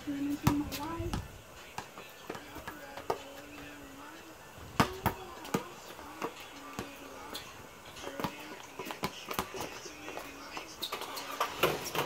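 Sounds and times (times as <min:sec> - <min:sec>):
background music: 0:00.0 - 0:12.0
basketball bouncing on pavement: 0:00.1 - 0:12.0.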